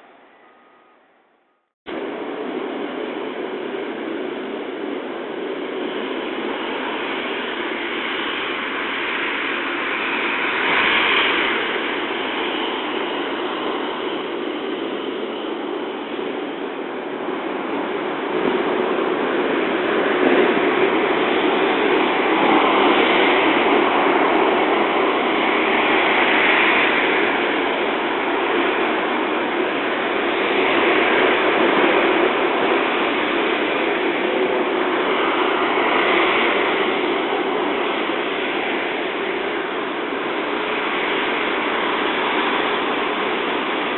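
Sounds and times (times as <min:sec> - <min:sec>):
jet engines rushing: 0:01.9 - 0:43.9.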